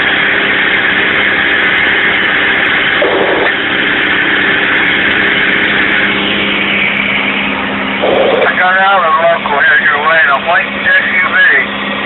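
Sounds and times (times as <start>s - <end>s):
diesel truck engine running: 0.0s - 12.0s
road and wind noise: 0.0s - 12.0s.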